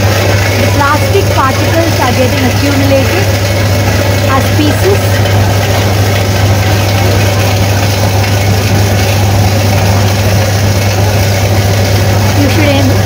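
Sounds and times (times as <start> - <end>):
shredder machine humming: 0.0 - 13.0.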